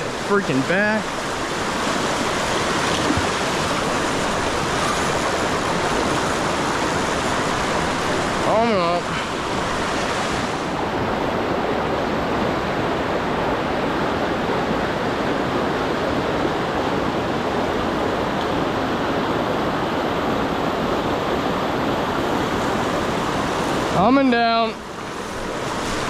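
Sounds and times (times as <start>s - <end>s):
river current rushing: 0.0s - 26.0s.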